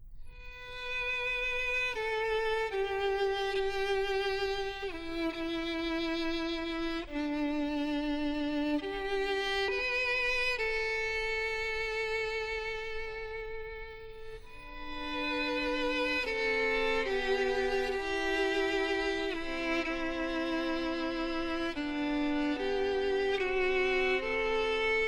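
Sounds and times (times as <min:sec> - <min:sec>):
solo violin melody: 0:00.2 - 0:25.0.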